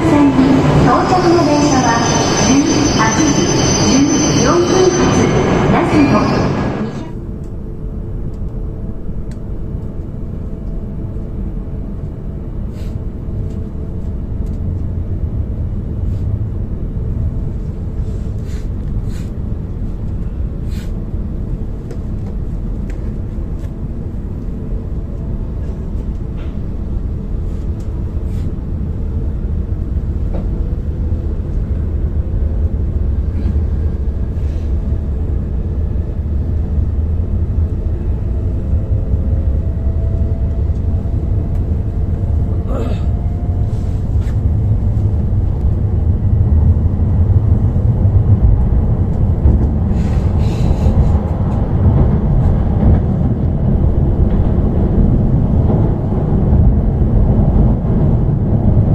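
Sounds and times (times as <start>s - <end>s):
train interior low rumble: 0.0s - 58.9s.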